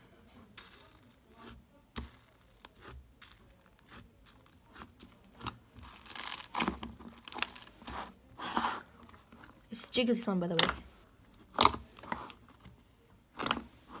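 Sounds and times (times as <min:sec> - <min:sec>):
sticky slime crackling and popping: 0:00.6 - 0:09.7, 0:10.5 - 0:14.0.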